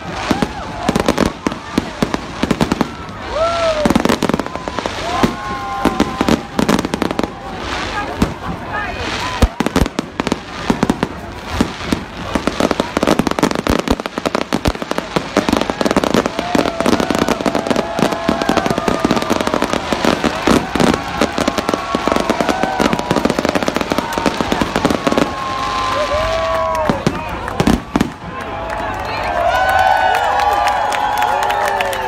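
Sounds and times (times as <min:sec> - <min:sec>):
fireworks crackling and popping: 0:00.0 - 0:28.6.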